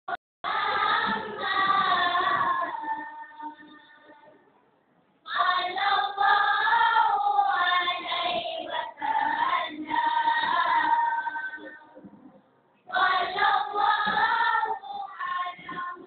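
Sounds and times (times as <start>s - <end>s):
boys singing a devotional chant: 0.5s - 4.4s, 5.3s - 12.2s, 12.9s - 16.0s.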